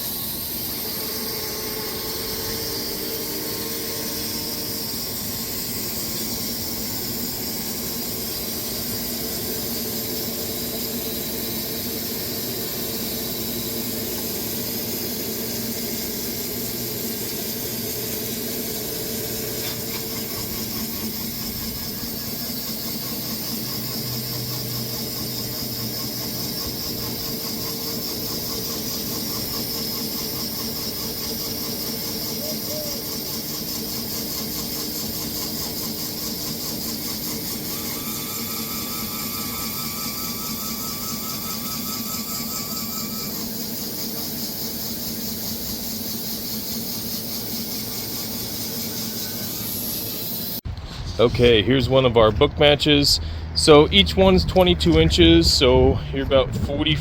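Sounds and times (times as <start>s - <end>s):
sawmill sawing log: 0.0s - 50.6s.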